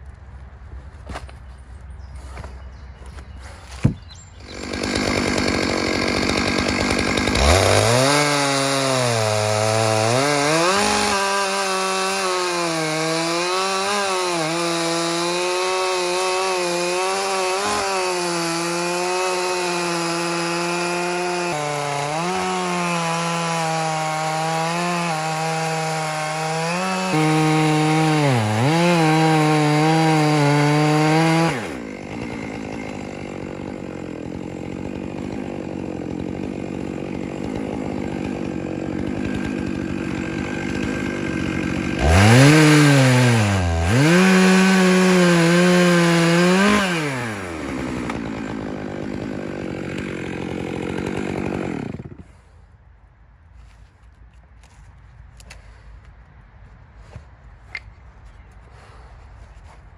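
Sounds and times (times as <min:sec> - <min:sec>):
chainsaw cutting log: 0:02.3 - 0:52.6, 0:57.1 - 0:59.9.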